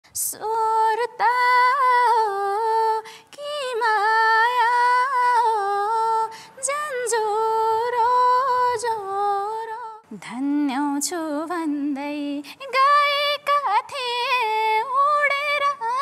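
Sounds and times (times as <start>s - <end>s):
woman singing unaccompanied: 0.2s - 16.0s.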